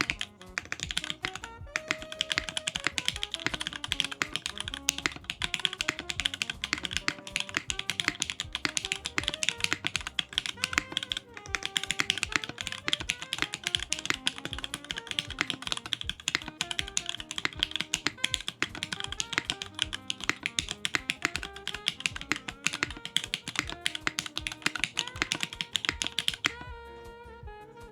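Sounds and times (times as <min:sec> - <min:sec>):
fast mechanical keyboard typing: 0:00.0 - 0:26.7
background music: 0:00.0 - 0:27.9.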